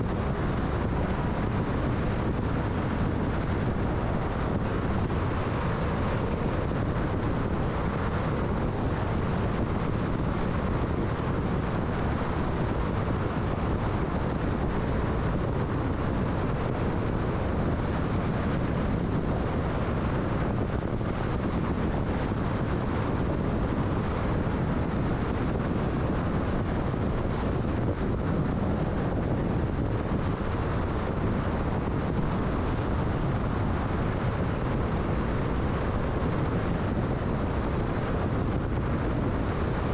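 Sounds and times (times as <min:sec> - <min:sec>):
car tyre and wind noise: 0:00.0 - 0:39.9.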